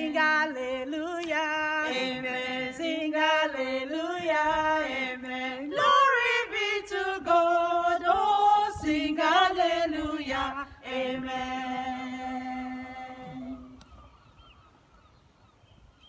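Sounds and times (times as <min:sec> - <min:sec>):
women singing a hymn in harmony: 0:00.0 - 0:13.8.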